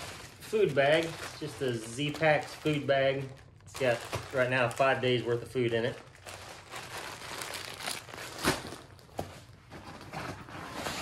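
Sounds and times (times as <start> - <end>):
crinkly rustling of bags: 0.0 - 9.6.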